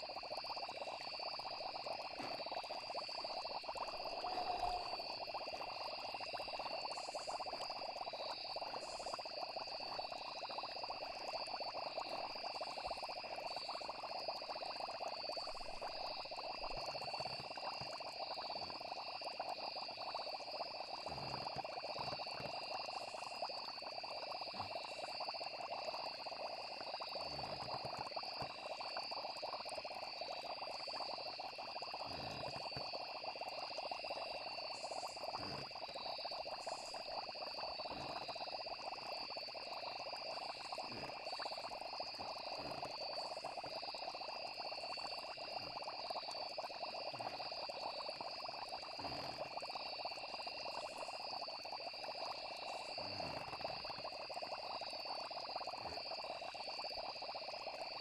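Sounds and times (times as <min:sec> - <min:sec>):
frogs croaking: 0:00.0 - 0:58.0
high insect trill: 0:00.0 - 0:58.0.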